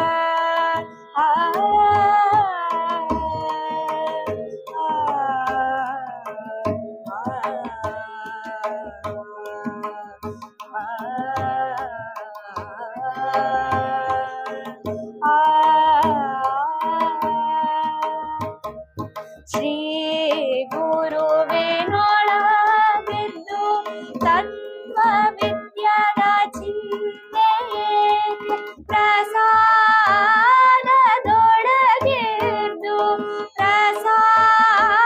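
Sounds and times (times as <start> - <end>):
girl singing: 0.0 - 18.5, 19.5 - 35.0
harmonium: 0.0 - 35.0
tabla: 0.0 - 35.0.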